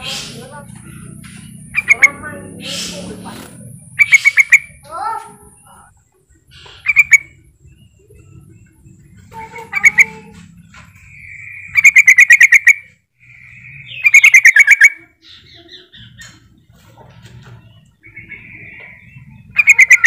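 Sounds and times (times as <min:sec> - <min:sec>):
bird chattering call: 0:00.0 - 0:16.4, 0:17.8 - 0:20.0.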